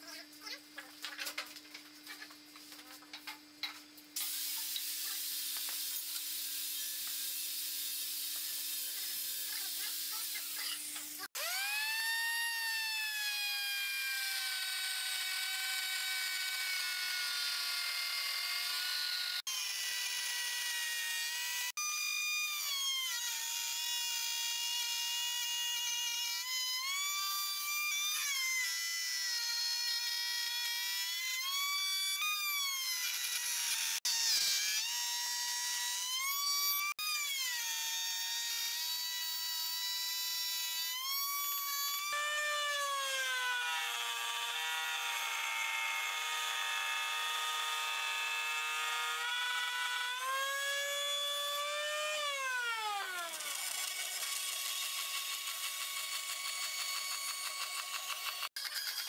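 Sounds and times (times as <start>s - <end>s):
wood router whining: 6.2s - 59.0s.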